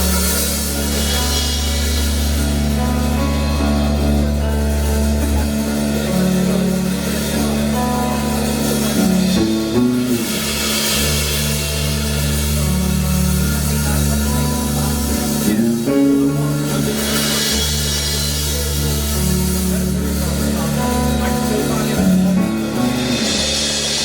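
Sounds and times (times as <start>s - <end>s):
drums and cymbals: 0.0s - 24.0s
electric guitar: 0.0s - 24.0s
low bass: 0.0s - 24.0s.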